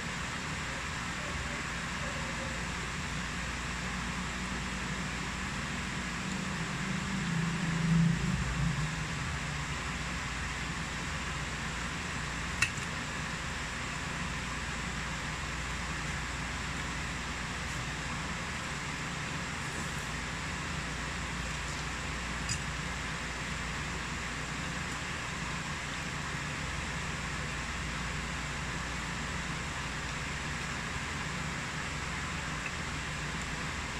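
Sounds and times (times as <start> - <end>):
background hiss with low hum: 0.0 - 33.9.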